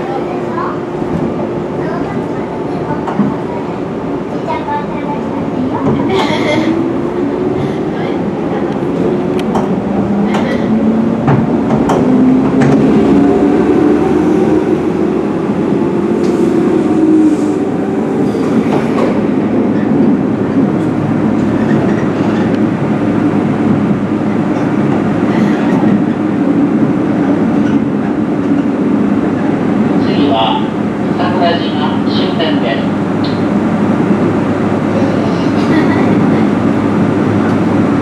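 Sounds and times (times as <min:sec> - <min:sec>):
train running rumble: 0:00.0 - 0:38.0
rail clicks: 0:00.9 - 0:31.3, 0:31.9 - 0:38.0.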